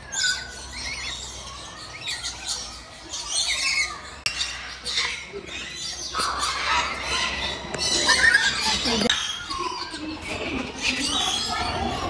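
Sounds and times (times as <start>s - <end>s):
small birds and parrots chirping: 0.0s - 12.0s.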